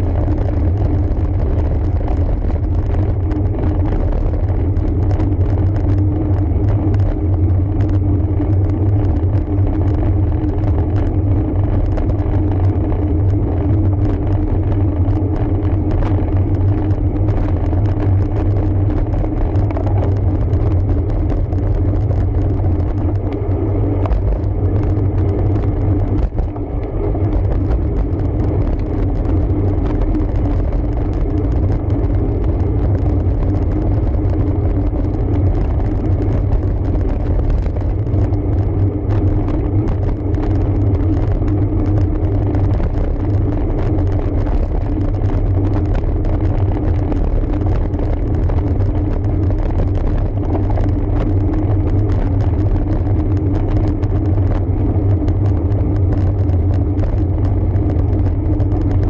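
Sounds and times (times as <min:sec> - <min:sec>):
road noise: 0:00.0 - 0:59.0
wind rumble: 0:00.0 - 0:59.0.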